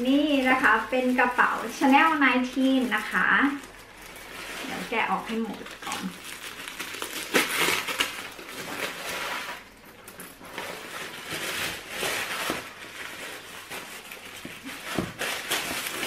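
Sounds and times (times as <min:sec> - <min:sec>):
tissue paper rustling: 0:00.0 - 0:16.0.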